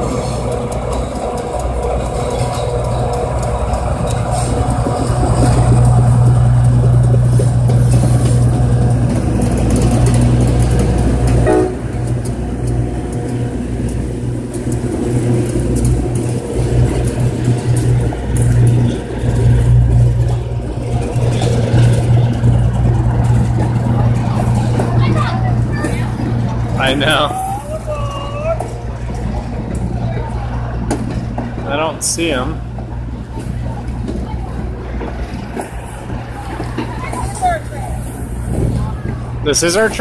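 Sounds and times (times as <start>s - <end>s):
diesel locomotive drone: 0.0s - 40.0s
passenger coaches rumbling past: 0.0s - 40.0s.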